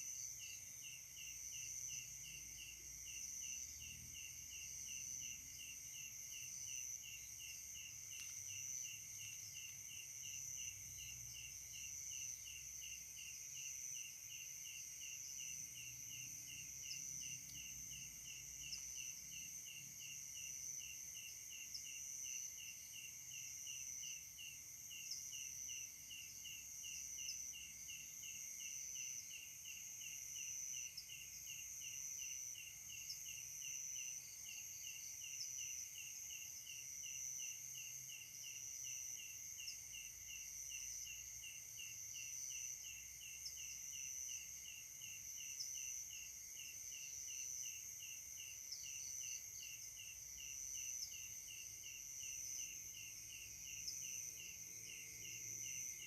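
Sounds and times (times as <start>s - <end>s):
insect chirping: 0.0s - 56.0s
insects buzzing: 0.0s - 56.0s.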